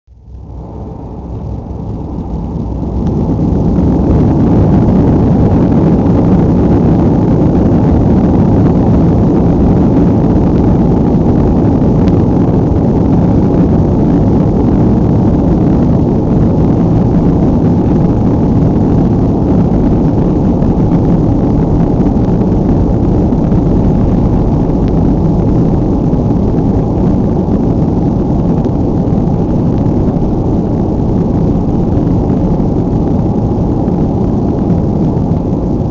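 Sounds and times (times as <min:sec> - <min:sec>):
jet engines rumbling in cabin: 0:00.1 - 0:35.9.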